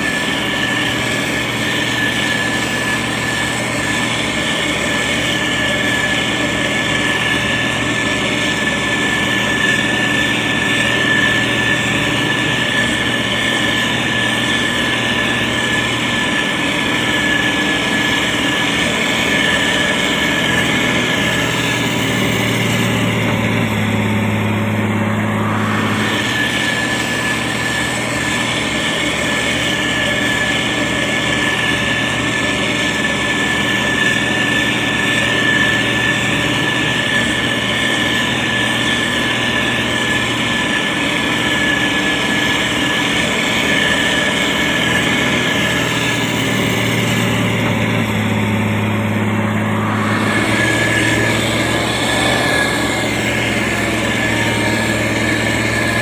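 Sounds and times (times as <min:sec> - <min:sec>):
diesel engine running: 0:00.0 - 0:56.0
high whine: 0:00.0 - 0:56.0.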